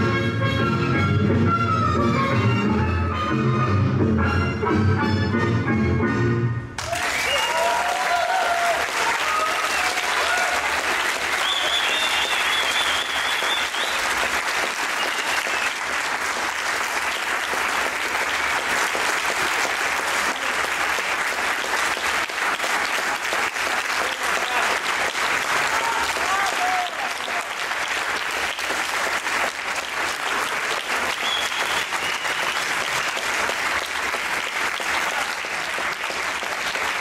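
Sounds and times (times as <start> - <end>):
audience applauding: 6.8 - 37.0.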